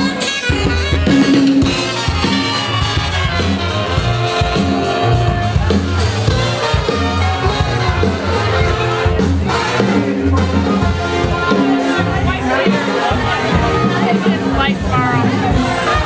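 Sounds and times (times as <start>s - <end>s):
upbeat music with drums and bass: 0.0s - 16.0s.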